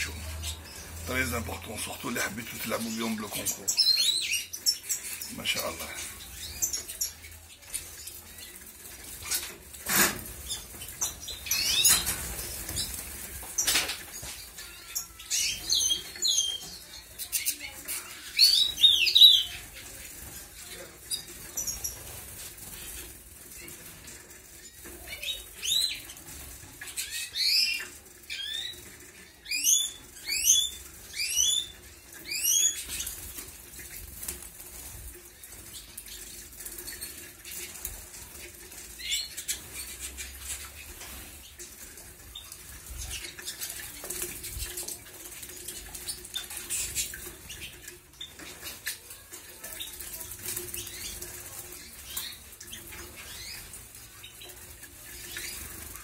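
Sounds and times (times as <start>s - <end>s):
wings fluttering: 4.6s - 14.8s, 19.4s - 56.0s.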